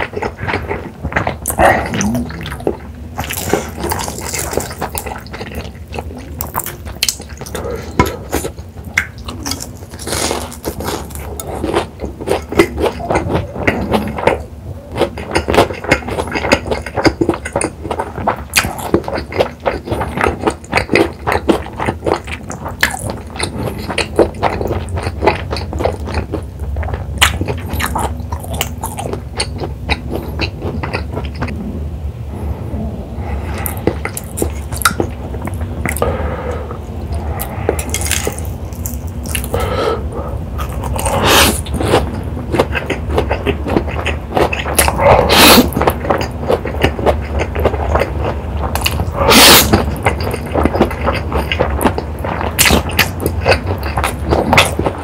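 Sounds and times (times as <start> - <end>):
close chewing mouth sounds: 0.0 - 31.6, 33.2 - 55.0.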